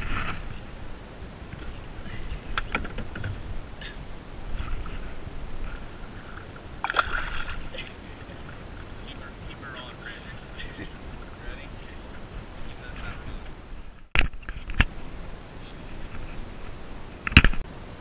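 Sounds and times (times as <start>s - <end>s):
water sloshing and splashing: 0.0s - 14.9s.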